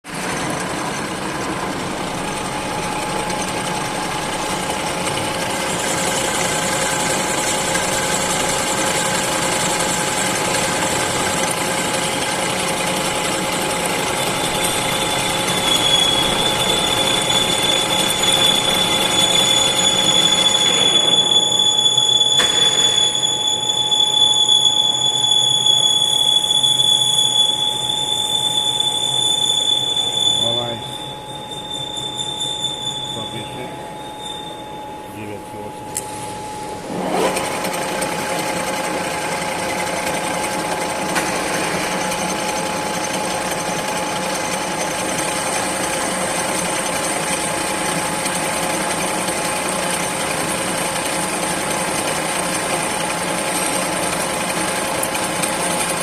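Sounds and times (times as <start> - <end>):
high steady whine: 0.1 - 51.7
lathe running: 0.1 - 56.0.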